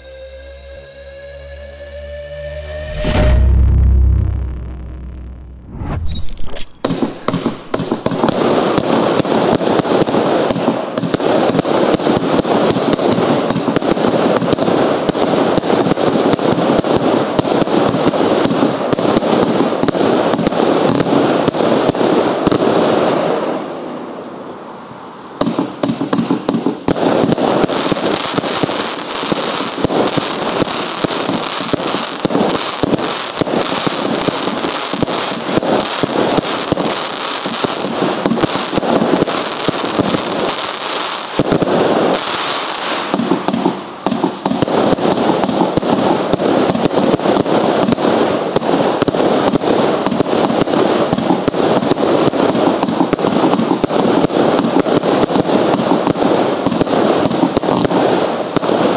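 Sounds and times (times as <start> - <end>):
firework barrage of shots: 5.0 - 24.2, 25.3 - 58.9.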